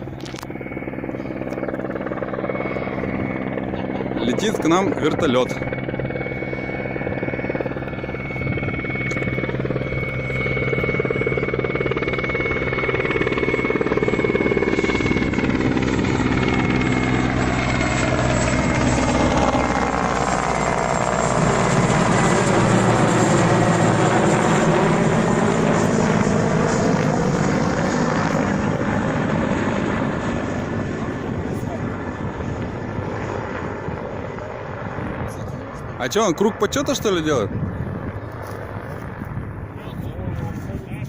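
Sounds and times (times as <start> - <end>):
helicopter flying past: 0.0 - 41.0.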